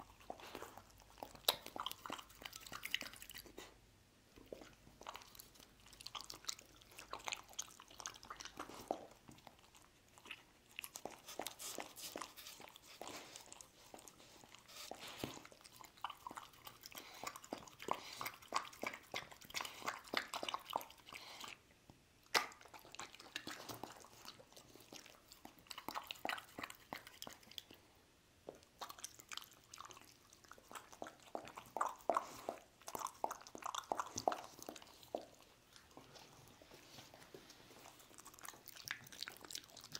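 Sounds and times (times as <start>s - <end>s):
dog licking from a bowl: 0.0s - 3.7s, 4.4s - 21.6s, 22.3s - 27.8s, 28.5s - 39.9s
dog chewing with wet smacks: 0.0s - 39.9s.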